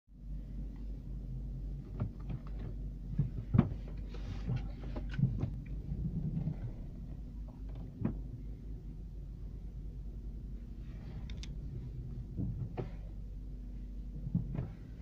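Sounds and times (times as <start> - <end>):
car engine idling: 0.2 - 15.0.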